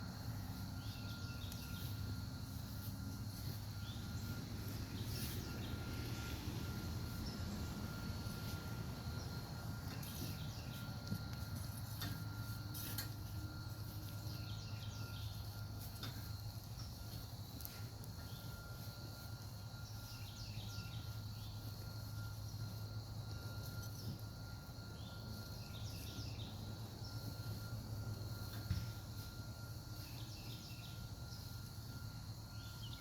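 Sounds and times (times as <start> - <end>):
insects trilling: 0.0 - 33.0
low hum: 0.0 - 33.0
birds chirping: 0.1 - 33.0.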